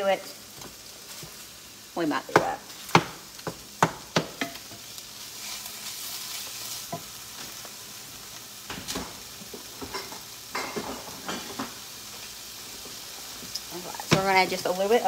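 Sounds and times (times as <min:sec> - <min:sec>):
meat sizzling in a skillet: 0:00.0 - 0:15.0.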